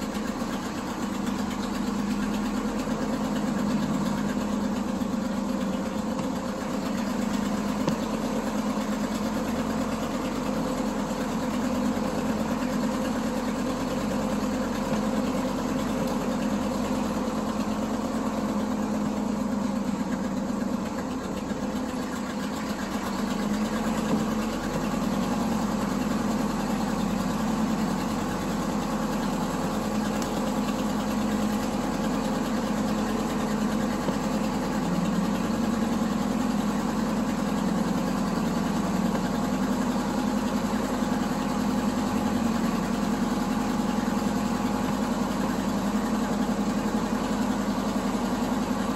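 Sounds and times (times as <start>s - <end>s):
truck engine deep hum: 0.0s - 48.9s.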